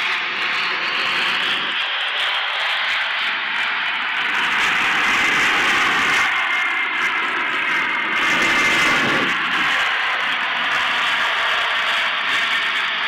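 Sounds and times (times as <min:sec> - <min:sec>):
jet aircraft flying overhead: 0:00.0 - 0:13.0.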